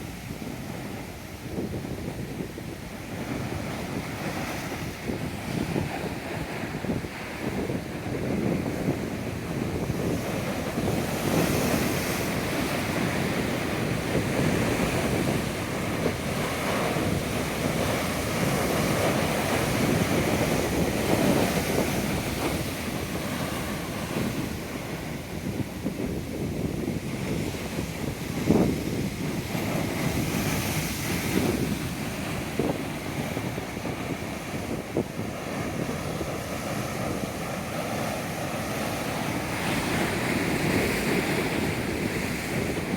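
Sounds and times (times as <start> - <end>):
ocean waves breaking: 0.0 - 42.9
wind buffeting microphone: 0.0 - 42.9.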